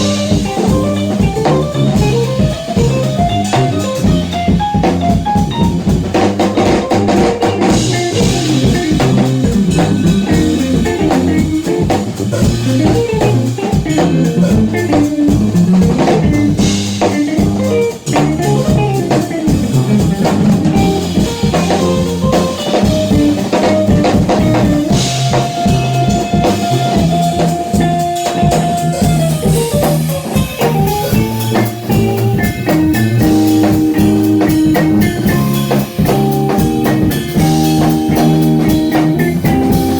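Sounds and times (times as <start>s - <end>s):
brass bass line: 0.0s - 39.9s
drum kit: 0.0s - 39.9s
guitar lines: 0.0s - 39.9s.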